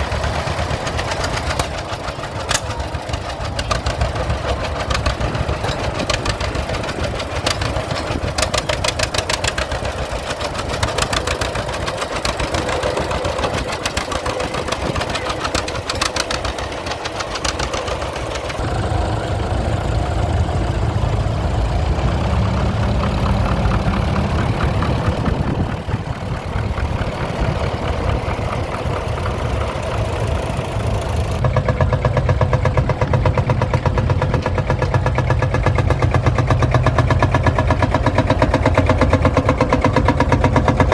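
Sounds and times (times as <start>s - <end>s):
engines running: 0.0s - 40.9s.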